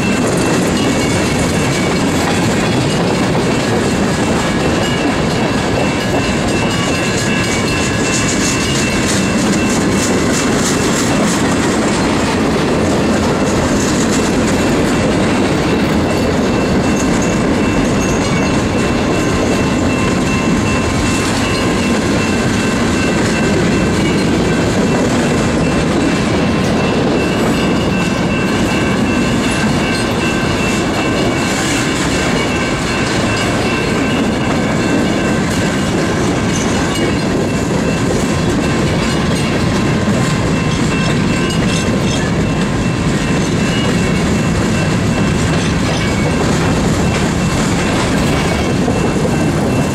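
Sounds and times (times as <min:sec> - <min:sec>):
steel wheels rumbling on rail: 0:00.0 - 0:49.9.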